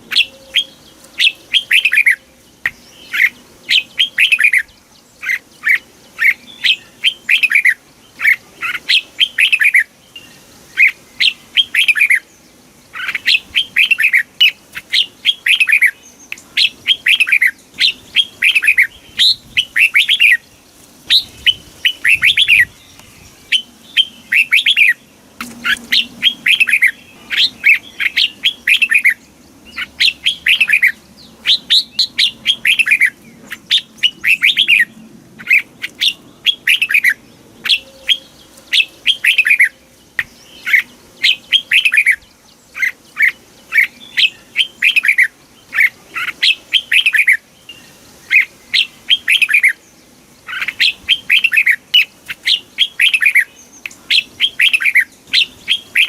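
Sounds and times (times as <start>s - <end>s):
bulbul singing whistled notes: 0.0s - 12.3s, 13.0s - 49.8s, 50.5s - 56.0s.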